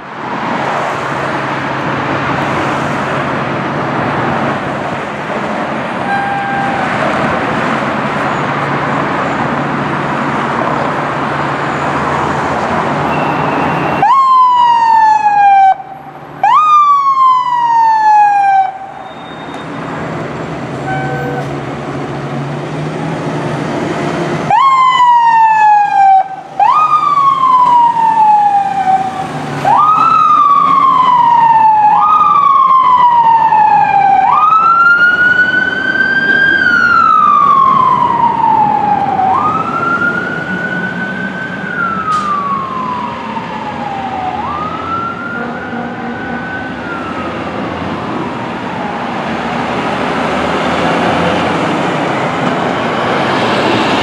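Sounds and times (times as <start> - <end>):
fire engine siren wailing: 5.8 - 8.5, 11.1 - 21.9, 22.6 - 54.0.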